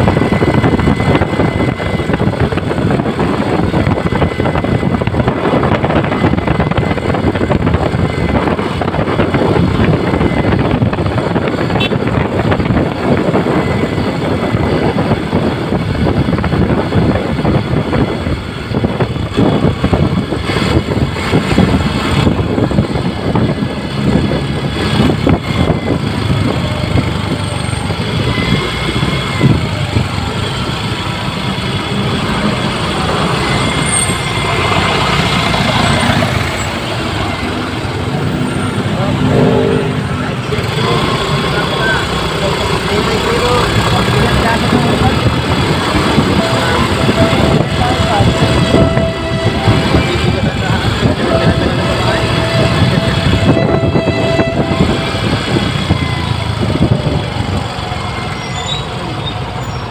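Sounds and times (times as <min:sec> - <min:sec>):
motorcycle engine and road noise: 0:00.0 - 0:59.9.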